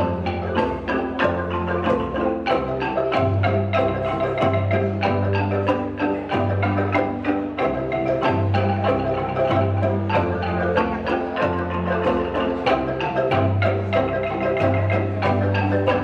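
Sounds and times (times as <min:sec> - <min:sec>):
wooden xylophone ensemble playing: 0:00.0 - 0:16.0.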